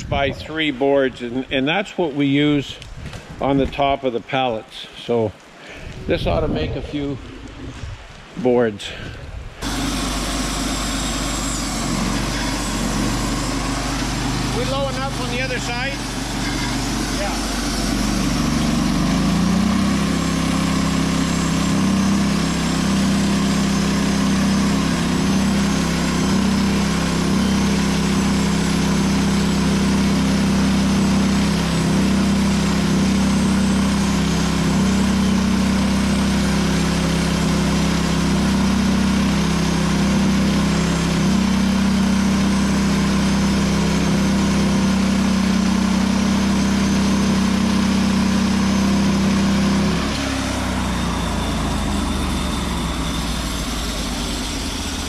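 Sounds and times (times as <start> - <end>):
band sawmill cutting log: 9.6 - 55.0.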